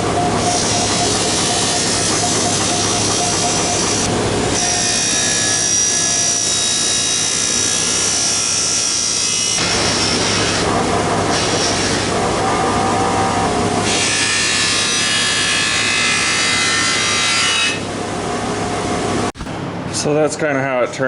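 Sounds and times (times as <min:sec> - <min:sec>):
high grinder whine: 0:00.0 - 0:17.9
power grinder grinding metal: 0:00.4 - 0:10.7, 0:11.3 - 0:17.9.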